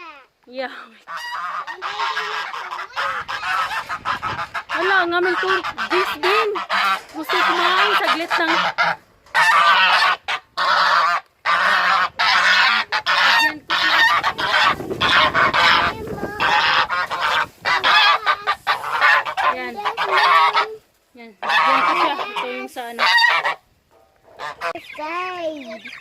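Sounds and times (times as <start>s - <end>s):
chickens and turkeys calling: 0.0s - 26.0s.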